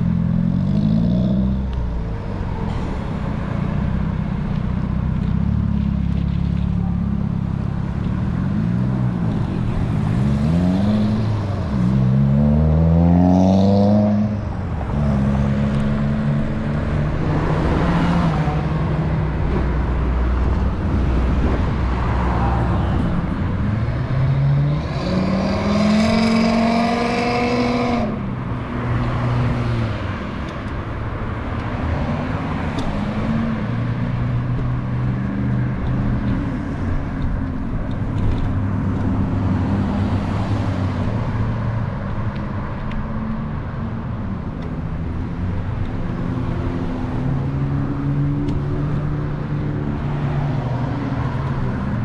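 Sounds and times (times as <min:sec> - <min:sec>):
engines humming: 0:00.0 - 0:52.0
vehicle accelerating: 0:00.0 - 0:52.0.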